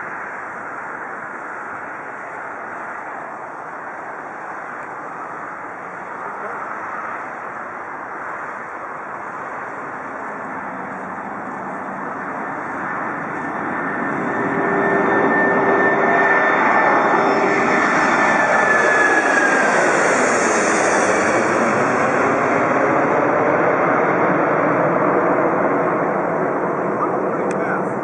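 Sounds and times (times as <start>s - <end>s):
high jet engine whine: 0.0s - 28.0s
jet airliner taking off overhead: 0.0s - 28.0s.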